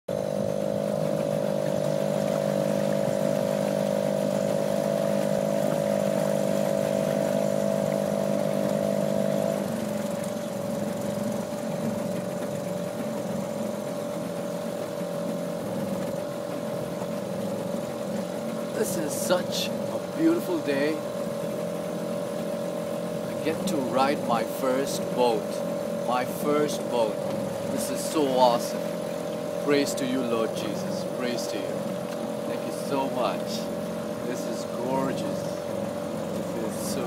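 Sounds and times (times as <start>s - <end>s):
boat motor running: 0.1s - 37.0s.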